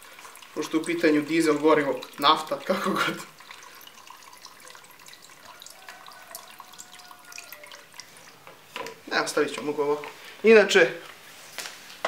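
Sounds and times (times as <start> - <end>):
fuel trickling and dripping: 0.0 - 10.4.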